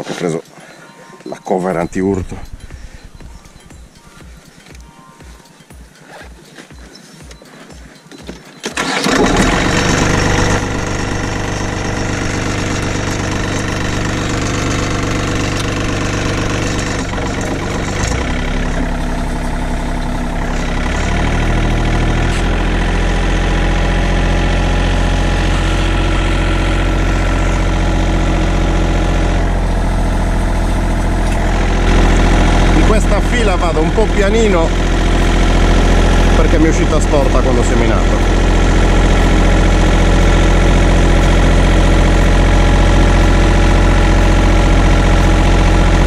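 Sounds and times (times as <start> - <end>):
tractor engine running: 1.3 - 5.5, 6.8 - 46.0.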